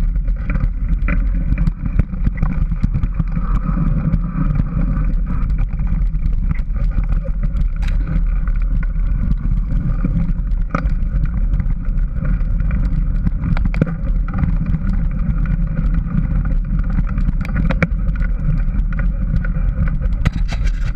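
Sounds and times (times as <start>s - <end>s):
bike riding over dirt trail: 0.0s - 20.9s
clicks and knocks from bike: 0.0s - 20.9s
wind buffeting microphone: 0.0s - 20.9s.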